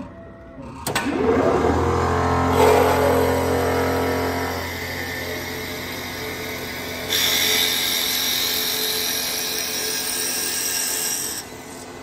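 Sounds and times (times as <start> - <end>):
machine low hum: 0.0 - 12.0
lathe drill cutting wood: 1.2 - 12.0.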